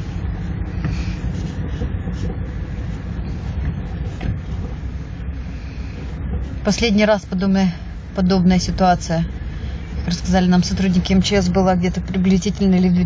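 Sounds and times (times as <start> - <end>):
car cabin rumble and hiss: 0.0 - 13.0.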